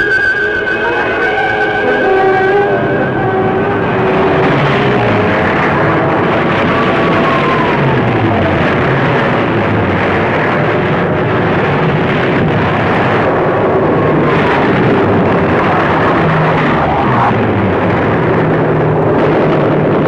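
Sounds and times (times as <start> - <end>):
aircraft engines running: 0.0 - 20.0
falling whines of passing planes: 0.0 - 20.0.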